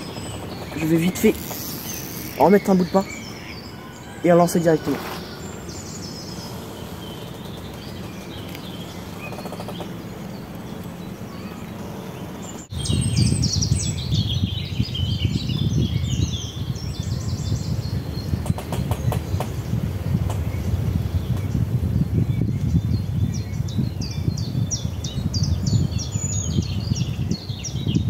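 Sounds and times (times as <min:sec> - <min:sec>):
low rumbling noise: 0:00.0 - 0:28.0
small birds chirping: 0:00.0 - 0:28.0.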